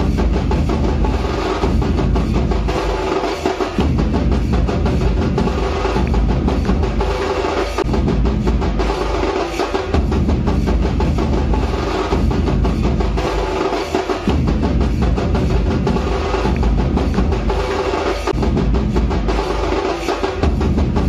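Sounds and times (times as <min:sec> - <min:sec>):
fast drumming: 0:00.0 - 0:21.0.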